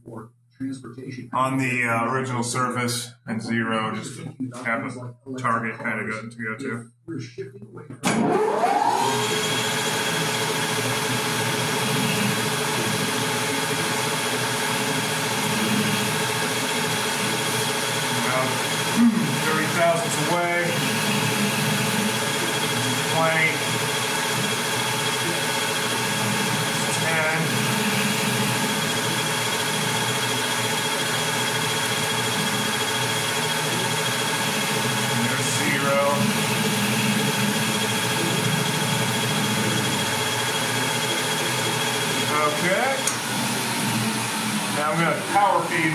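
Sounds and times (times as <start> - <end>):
metal lathe humming: 8.0 - 45.9.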